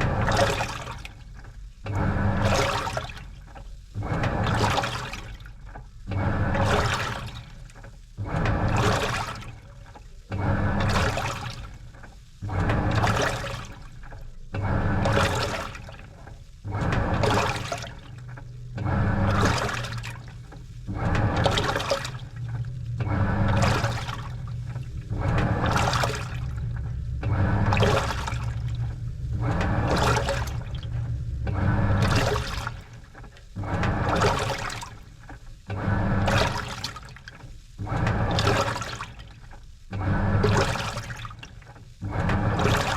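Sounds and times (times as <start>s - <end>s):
washing machine motor humming: 0.0s - 42.9s
water and laundry sloshing: 0.0s - 42.9s.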